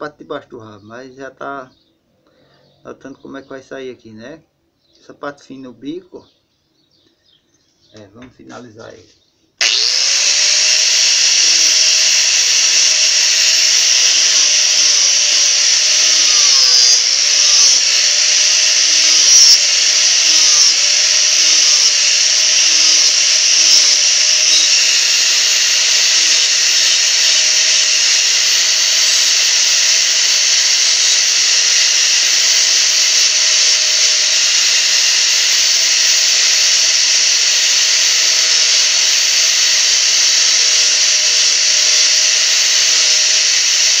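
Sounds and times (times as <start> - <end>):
angle grinder grinding wood: 7.9 - 44.0.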